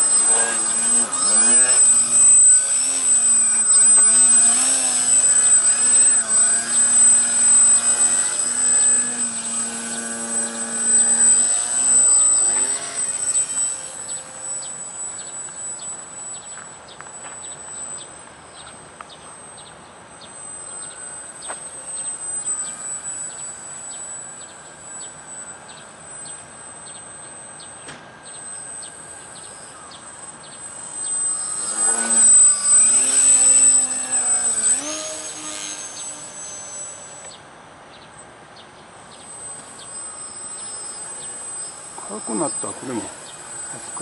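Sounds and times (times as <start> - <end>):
faint rhythmic chirping: 0.0 - 44.0
model airplane motor whining by: 0.0 - 44.0
thin high whine: 0.0 - 44.0.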